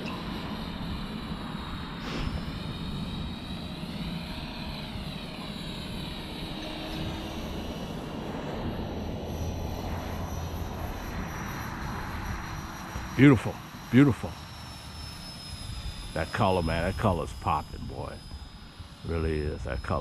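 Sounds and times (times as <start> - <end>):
rc helicopter motor whining: 0.0 - 20.0.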